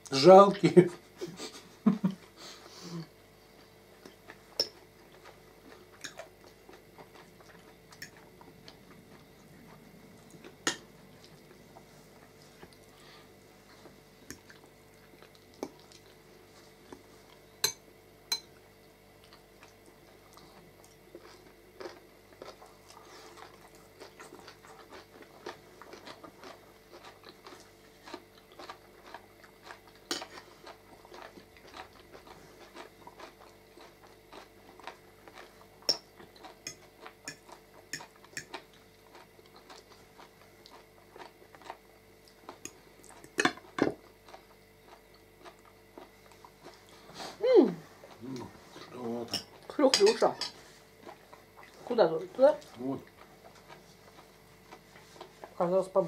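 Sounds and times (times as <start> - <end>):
quiet chewing: 1.3 - 56.0.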